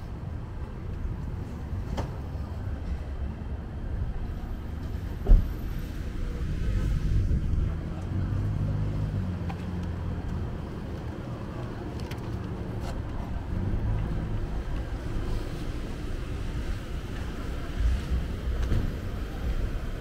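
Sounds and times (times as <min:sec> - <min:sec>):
street noise: 0:00.0 - 0:20.0
vehicle engine rumble: 0:00.0 - 0:20.0.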